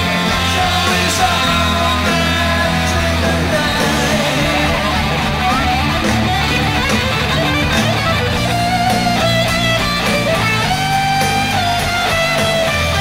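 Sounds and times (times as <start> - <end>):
electric guitar sliding lead: 0.0 - 13.0
rock band playing: 0.0 - 13.0.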